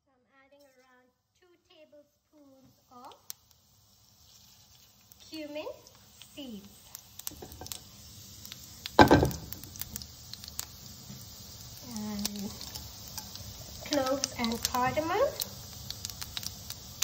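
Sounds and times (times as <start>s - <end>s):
seeds sizzling in hot oil: 0.6s - 17.0s.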